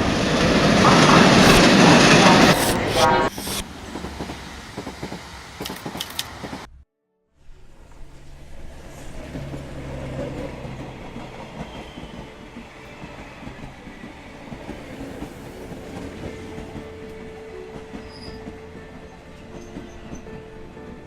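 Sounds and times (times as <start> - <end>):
train rumbling: 0.0 - 6.8, 7.4 - 21.0.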